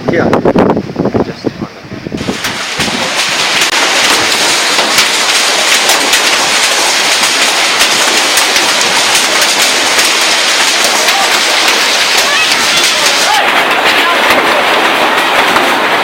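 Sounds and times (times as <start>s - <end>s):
heavy rain pouring: 2.2s - 16.0s.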